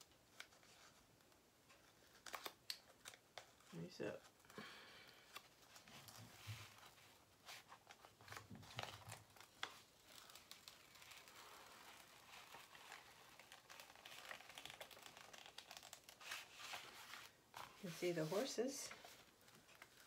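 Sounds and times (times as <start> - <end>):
paper wrapping crinkling: 0.0 - 20.0.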